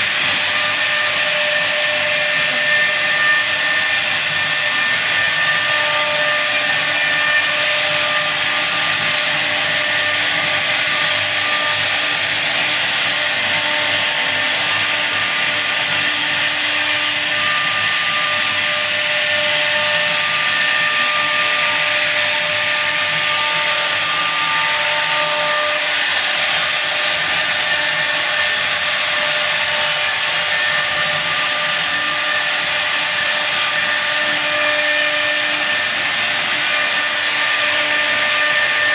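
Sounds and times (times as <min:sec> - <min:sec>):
bit cutting wood: 0:00.0 - 0:38.9
router spindle whine: 0:00.0 - 0:38.9.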